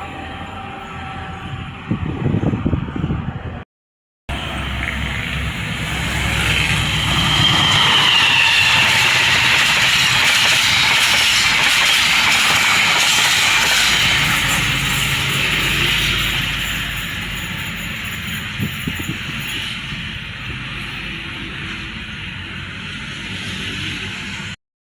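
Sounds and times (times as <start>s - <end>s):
train wheels on rails: 4.3s - 24.6s.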